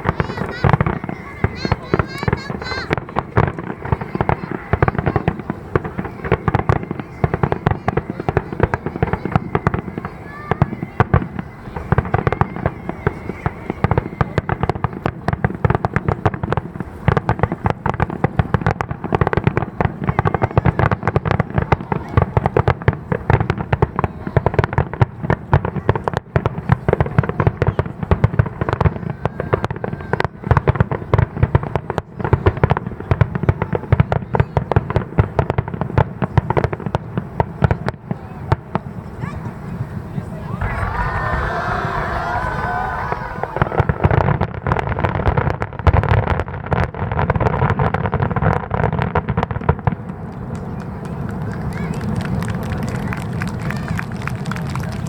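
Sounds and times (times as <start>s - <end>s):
rapid fireworks bursts: 0.0s - 55.0s.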